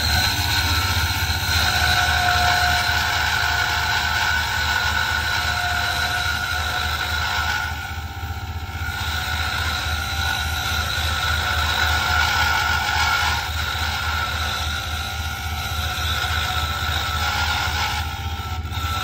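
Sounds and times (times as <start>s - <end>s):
lathe motor hum: 0.0s - 19.0s
turning tool cutting wood: 0.0s - 19.0s.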